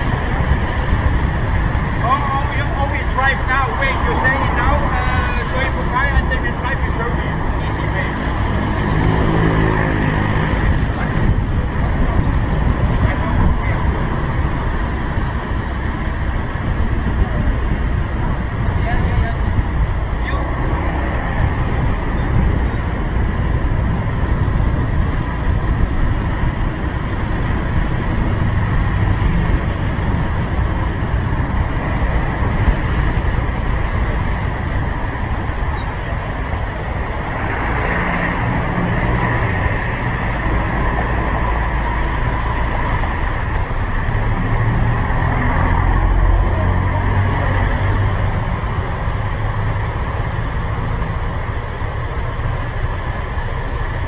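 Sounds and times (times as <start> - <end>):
surrounding car traffic: 0.0 - 54.0
wind rumble on microphone: 0.0 - 54.0.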